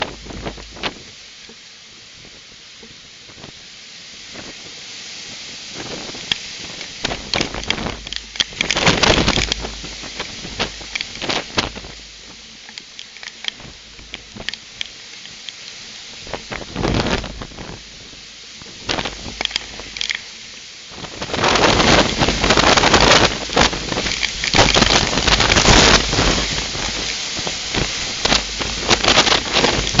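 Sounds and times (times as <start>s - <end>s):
rain hissing on microphone: 0.0s - 30.0s
storm winds: 0.0s - 30.0s.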